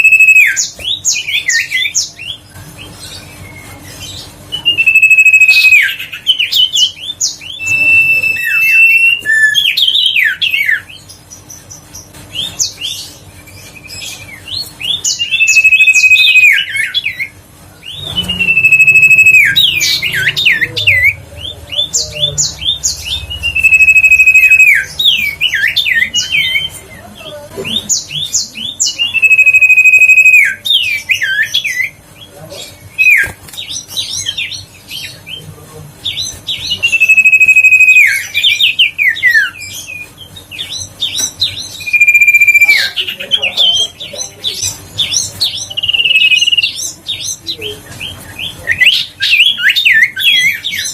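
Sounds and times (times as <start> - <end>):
bird whistling and chattering: 0.0 - 2.4, 4.5 - 10.9, 13.8 - 26.8, 27.7 - 32.0, 36.1 - 50.9.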